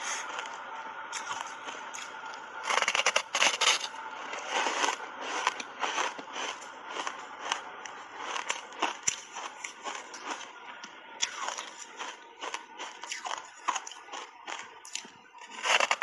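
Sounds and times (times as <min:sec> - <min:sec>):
crunching ice: 0:00.0 - 0:16.0.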